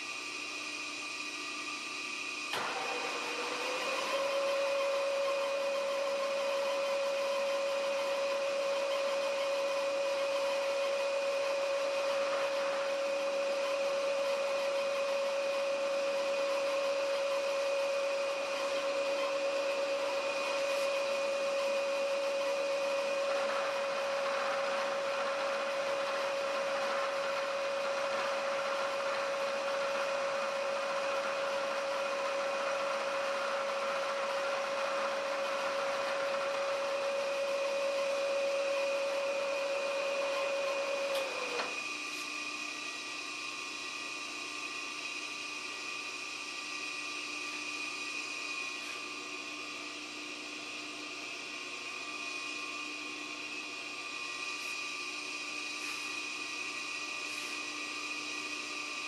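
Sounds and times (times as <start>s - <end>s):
milling machine spindle whine: 0.0s - 59.0s.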